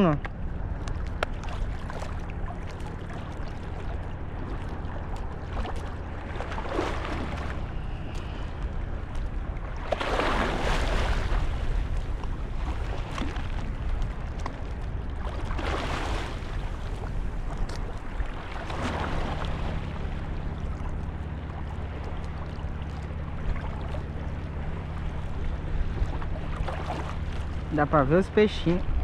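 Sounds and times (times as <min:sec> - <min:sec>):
low engine hum: 0:00.0 - 0:29.0
sea water splashing: 0:00.0 - 0:29.0
wind: 0:00.0 - 0:29.0.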